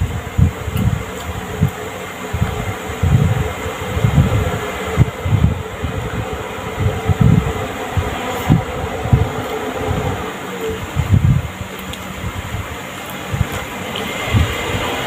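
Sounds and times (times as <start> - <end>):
low rumbling swells: 0.0 - 15.0
mechanical hum: 0.0 - 15.0.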